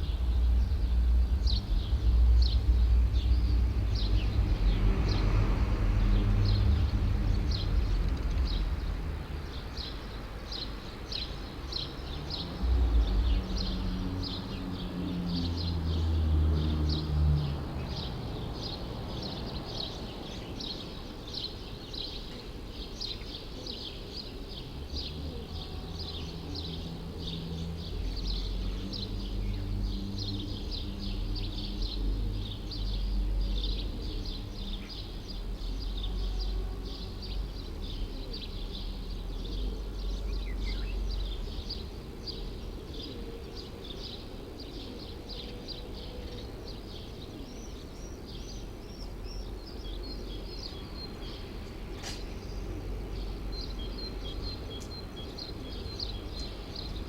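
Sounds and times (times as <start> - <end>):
city traffic rumble: 0.0 - 57.0
small birds chirping: 0.0 - 57.0
vehicles passing: 0.0 - 57.0.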